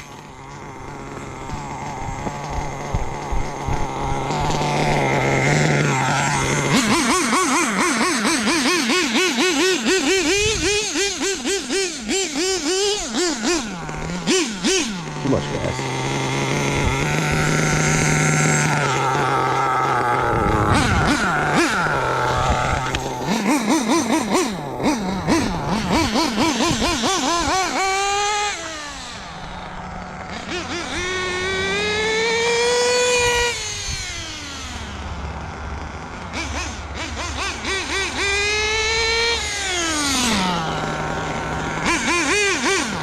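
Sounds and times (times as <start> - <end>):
rc car engine buzzing: 0.0 - 43.0.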